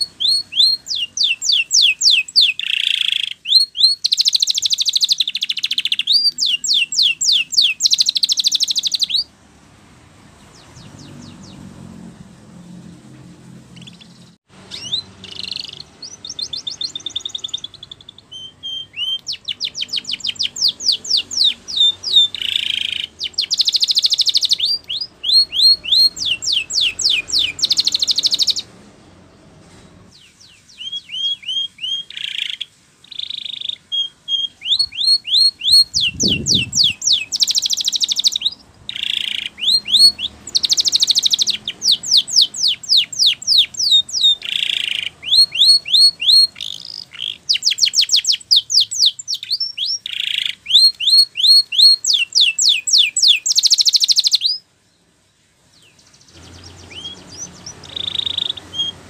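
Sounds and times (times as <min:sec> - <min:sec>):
canary singing: 0:00.0 - 0:09.4, 0:10.3 - 0:55.0, 0:55.6 - 0:59.0.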